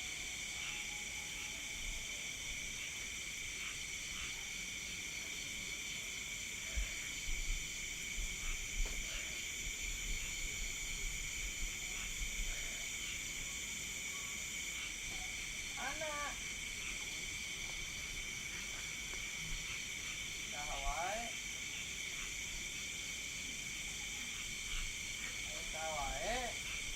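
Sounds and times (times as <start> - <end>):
night insects trilling: 0.0 - 26.9.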